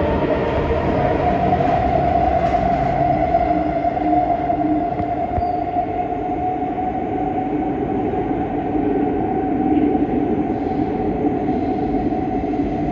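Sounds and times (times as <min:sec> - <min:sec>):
metro train rumbling in tunnel: 0:00.0 - 0:12.9.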